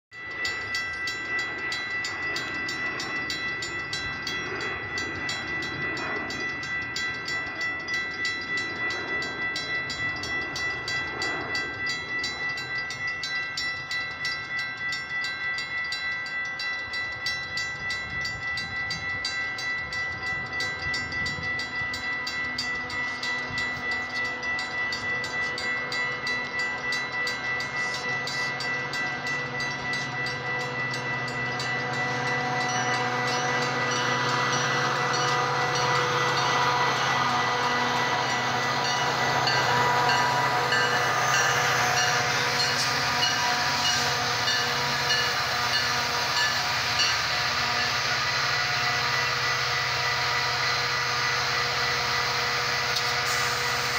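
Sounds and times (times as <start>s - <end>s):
railroad crossing bell ringing: 0.1s - 53.9s.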